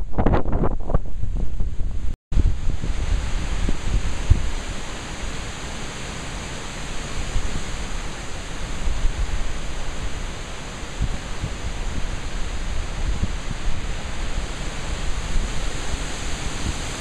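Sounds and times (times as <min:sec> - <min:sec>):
wind gusts buffeting microphone: 0:00.0 - 0:17.0
wind rushing hiss: 0:00.2 - 0:17.0.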